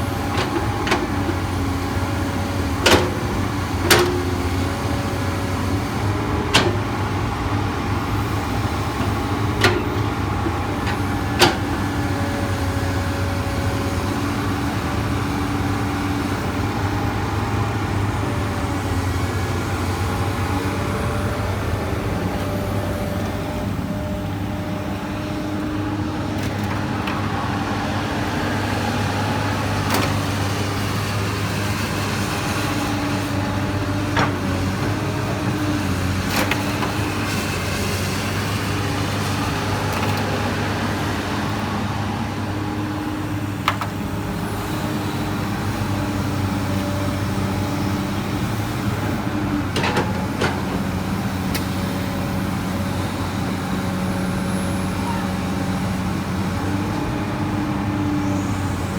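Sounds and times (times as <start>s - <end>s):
excavator diesel engine: 0.0s - 58.9s.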